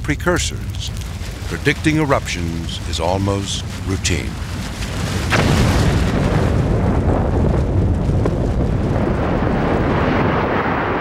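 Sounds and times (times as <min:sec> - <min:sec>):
deep rumble: 0:00.0 - 0:11.0
lava fountain rushing: 0:00.0 - 0:11.0.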